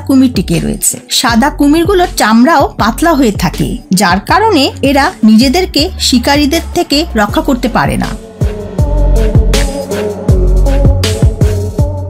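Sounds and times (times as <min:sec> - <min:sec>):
deep bass beat: 0:01.6 - 0:12.0.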